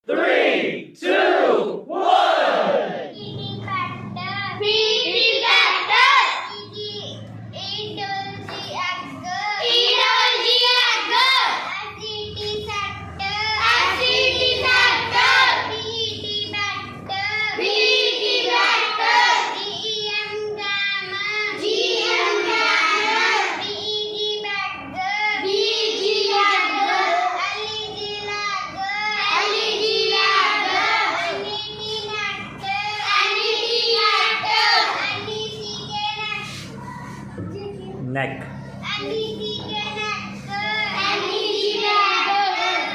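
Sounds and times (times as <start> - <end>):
children chanting: 0.1 - 37.9, 38.6 - 42.9.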